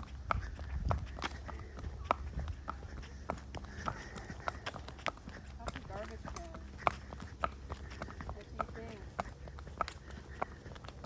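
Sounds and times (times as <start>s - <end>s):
horse hooves on paved road: 0.0s - 11.0s.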